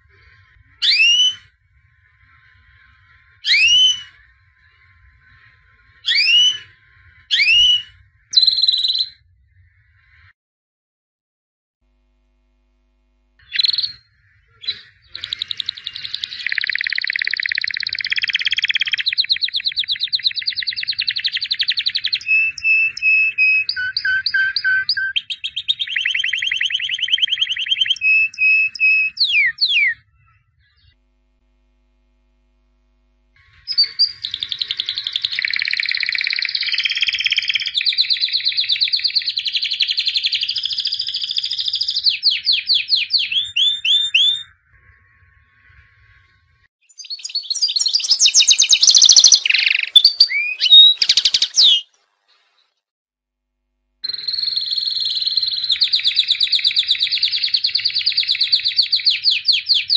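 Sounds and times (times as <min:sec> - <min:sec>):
canary singing: 0:00.3 - 0:09.2, 0:13.4 - 0:31.0, 0:33.4 - 0:52.6, 0:54.0 - 0:59.9.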